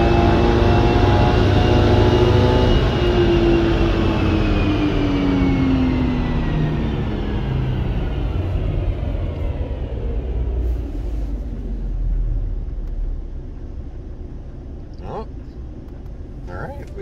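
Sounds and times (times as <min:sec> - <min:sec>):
car engine revving down: 0:00.0 - 0:17.0.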